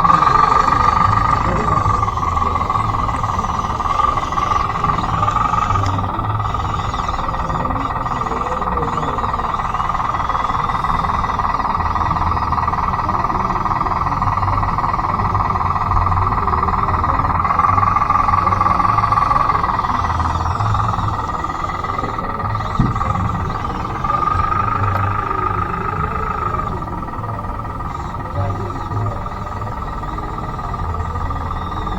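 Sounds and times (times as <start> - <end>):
toy bulldozer motor whine: 0.0 - 31.9
tracks rumbling: 0.0 - 31.9.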